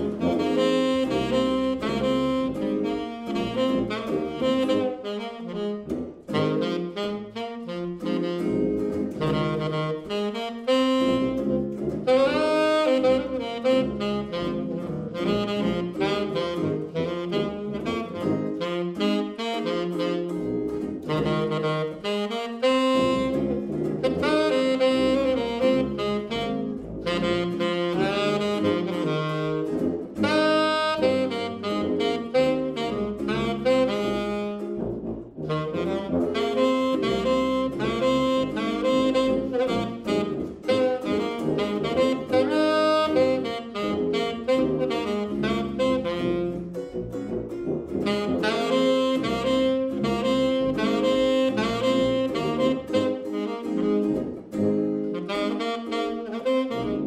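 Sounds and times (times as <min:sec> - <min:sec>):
electric guitar chords: 0:00.0 - 0:57.0
tenor saxophone melody: 0:00.0 - 0:57.0
tuba bass line: 0:00.0 - 0:57.0.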